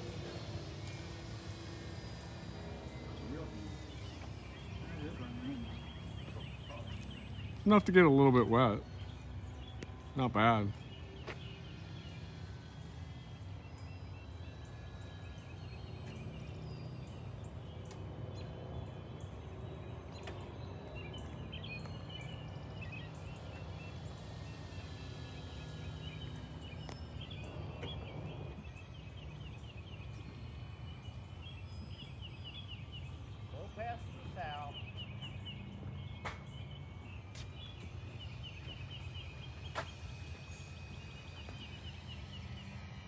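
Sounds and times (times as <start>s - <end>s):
birds chirping and warbling: 0.0s - 43.0s.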